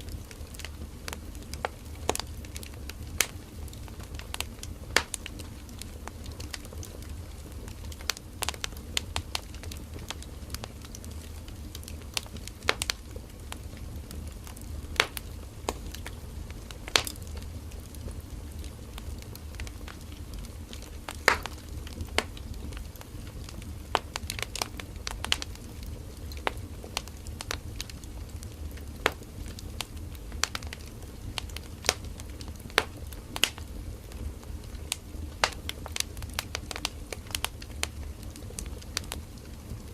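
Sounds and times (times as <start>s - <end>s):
burning wood crackling and popping: 0.0s - 39.9s
rumble and hiss of flames: 0.0s - 39.9s.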